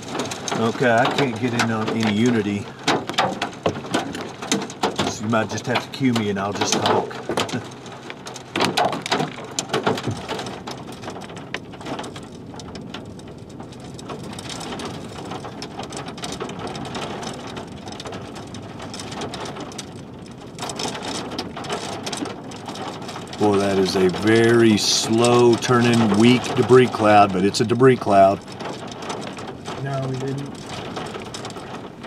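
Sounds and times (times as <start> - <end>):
sharp raindrop strikes: 0.0 - 32.0
steady rain falling: 0.0 - 32.0.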